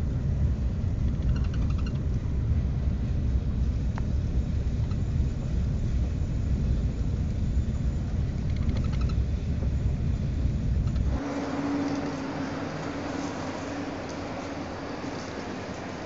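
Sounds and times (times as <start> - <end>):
high-speed train rumble: 0.0 - 16.0
low hum: 0.0 - 16.0
steady hiss: 2.2 - 16.0.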